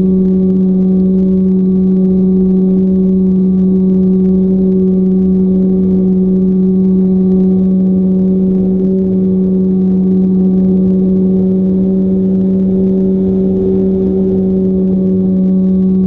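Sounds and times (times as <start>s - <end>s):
low buffeting rumble: 0.0s - 16.0s
model plane motor droning: 0.0s - 16.0s.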